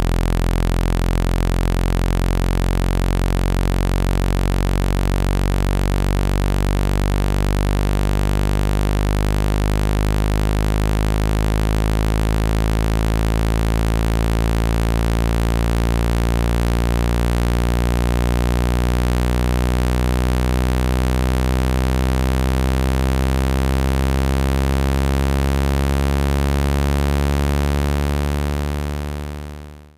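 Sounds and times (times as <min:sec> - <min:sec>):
buzzy low electronic tone: 0:00.0 - 0:29.9.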